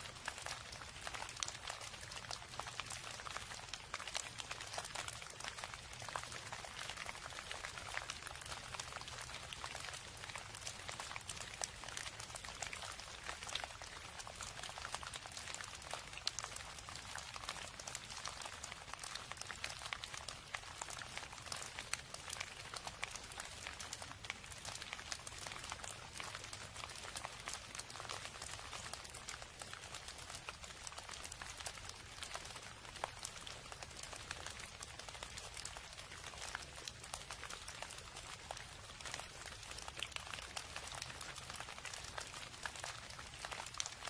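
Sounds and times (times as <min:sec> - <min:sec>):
steady rain patter: 0:00.0 - 0:44.0.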